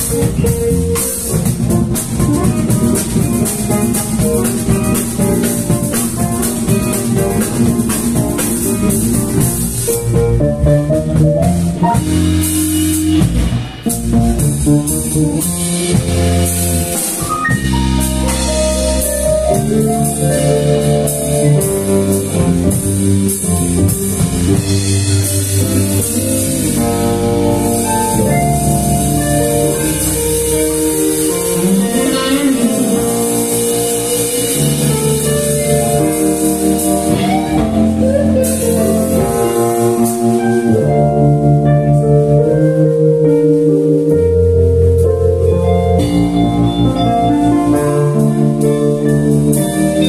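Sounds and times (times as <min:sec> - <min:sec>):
drum kit: 0:00.0 - 0:50.0
electric bass: 0:00.0 - 0:50.0
electric guitars: 0:00.0 - 0:50.0
electric keyboard: 0:00.0 - 0:50.0.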